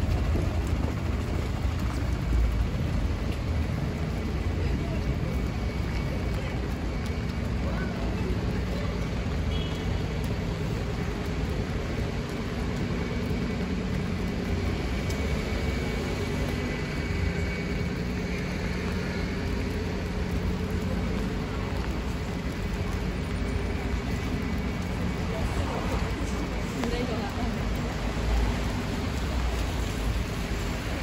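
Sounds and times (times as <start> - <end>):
traffic hiss on wet street: 0.0 - 31.0.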